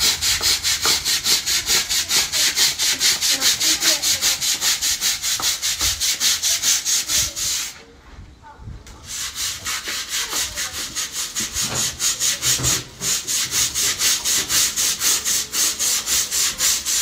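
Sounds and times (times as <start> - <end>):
brush scrubbing wet wood: 0.0 - 7.8, 9.0 - 17.0.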